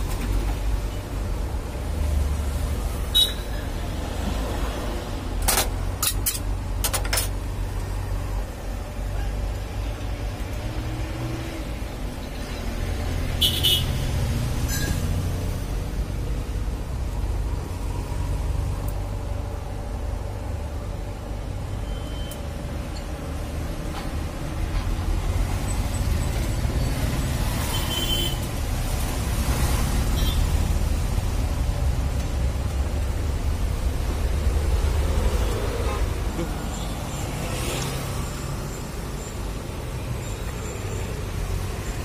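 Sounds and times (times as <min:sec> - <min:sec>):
street traffic rumble: 0:00.0 - 0:42.0.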